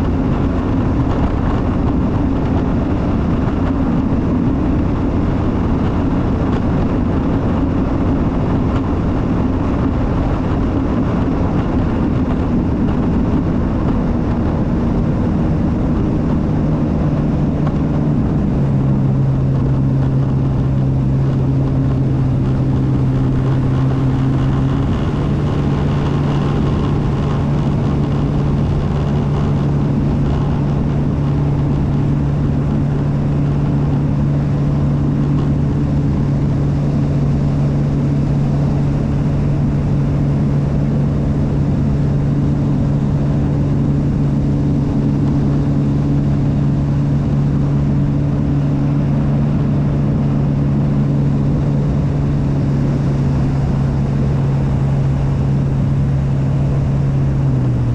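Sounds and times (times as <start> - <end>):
jet ski engine drone: 0.0 - 57.9
water rushing: 0.0 - 57.9.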